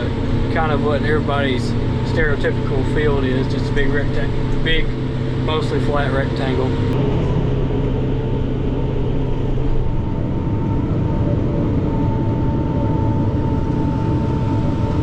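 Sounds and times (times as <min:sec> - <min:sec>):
forage chopper whine: 0:00.0 - 0:15.0
tractor engine drone: 0:00.0 - 0:15.0.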